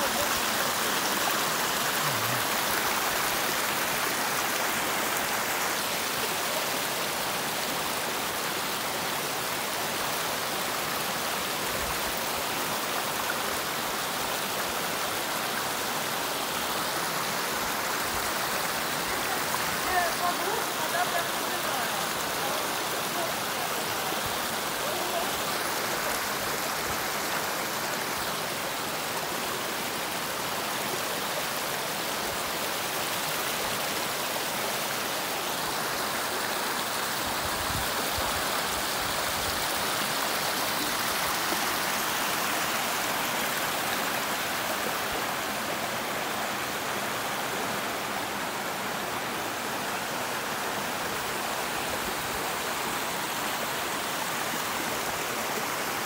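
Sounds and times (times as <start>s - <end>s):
waterfall rushing into pool: 0.0s - 56.0s.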